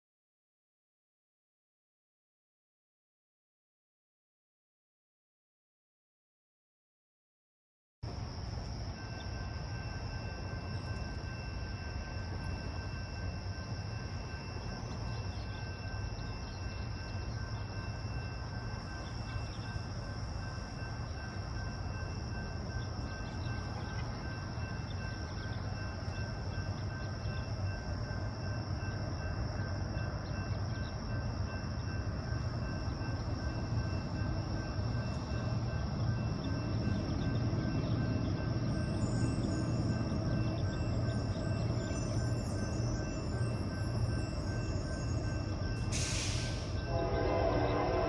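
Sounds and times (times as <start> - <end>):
insect drone: 8.1 - 48.0.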